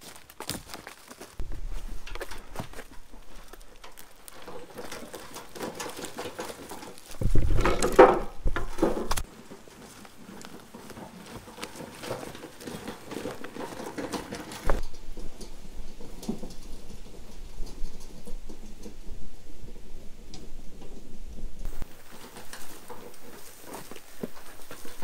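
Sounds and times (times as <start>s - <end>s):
logs clattering in wheelbarrow: 0.0s - 25.0s.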